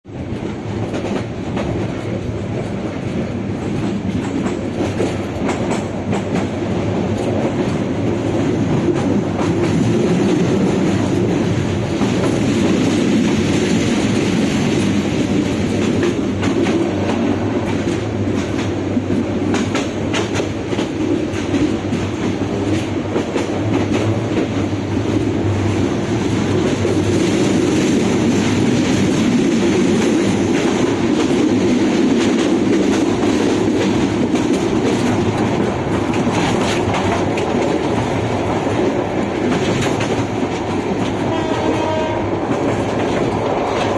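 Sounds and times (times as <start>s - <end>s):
train carriages rumbling: 0.1s - 43.9s
wheels clicking over rail joints: 0.8s - 43.9s.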